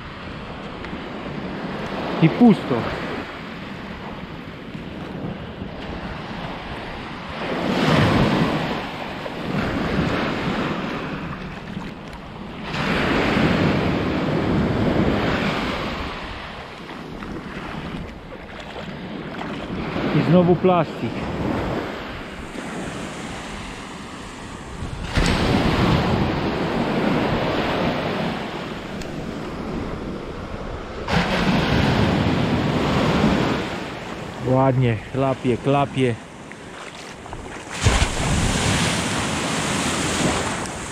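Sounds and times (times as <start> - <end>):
surf washing over shallows: 0.0 - 40.9
wind on microphone: 2.8 - 34.5, 36.5 - 40.9.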